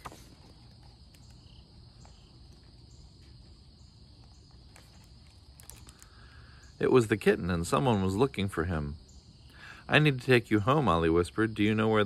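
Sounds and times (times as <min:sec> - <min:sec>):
crickets chirping: 0:00.0 - 0:12.0
steady background hiss: 0:00.0 - 0:12.0.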